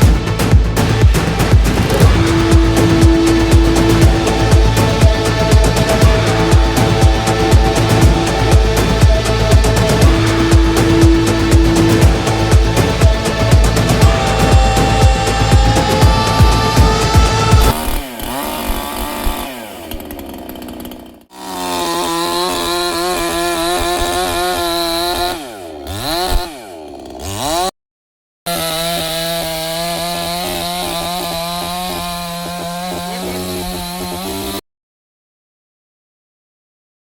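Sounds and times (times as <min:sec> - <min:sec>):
chainsaw running at high speed: 0:00.0 - 0:27.7, 0:28.5 - 0:34.6.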